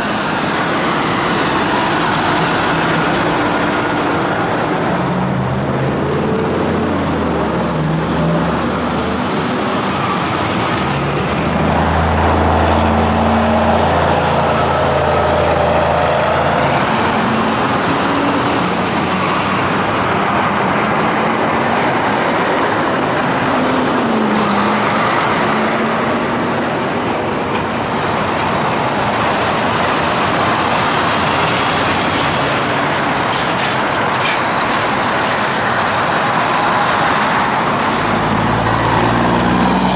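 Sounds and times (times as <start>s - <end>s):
trucks passing on highway: 0.0s - 39.9s.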